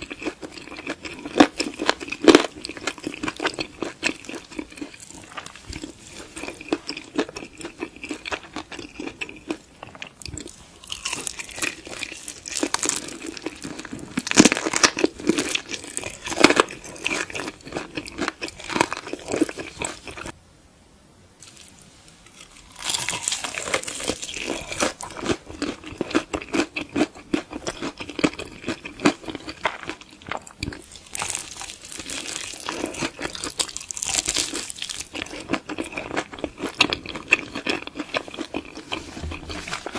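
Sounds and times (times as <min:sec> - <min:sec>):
crunchy food being chewed: 0:00.0 - 0:20.4, 0:21.4 - 0:39.9.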